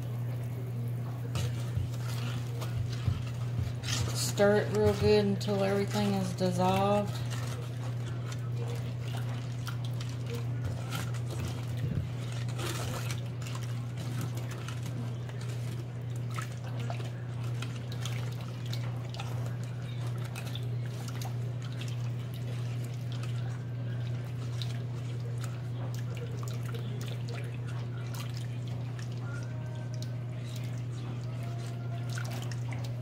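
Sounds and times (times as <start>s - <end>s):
liquid sloshing and swirling: 0.0s - 33.0s
steady low hum: 0.0s - 33.0s.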